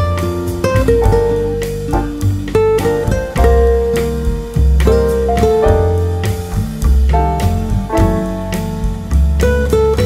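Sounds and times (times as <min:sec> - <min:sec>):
plucked-string melody: 0:00.0 - 0:10.0
strong bass: 0:00.0 - 0:10.0.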